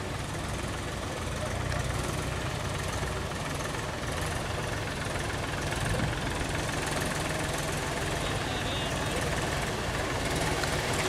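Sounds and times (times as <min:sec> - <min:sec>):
tractor engine running: 0:00.0 - 0:11.0
water rushing over road: 0:00.0 - 0:11.0.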